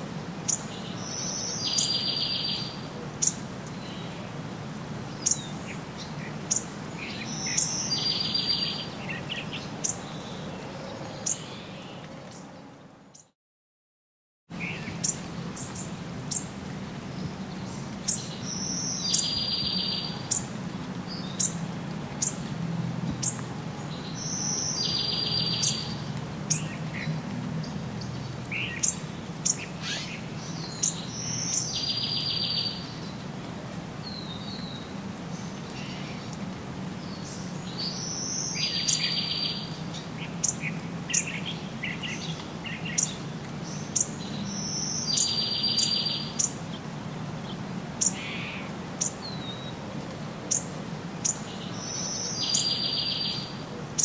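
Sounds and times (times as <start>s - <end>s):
birds chirping: 0.5s - 4.4s, 5.1s - 13.3s, 14.5s - 22.5s, 23.1s - 33.3s, 34.0s - 49.8s, 50.4s - 54.0s.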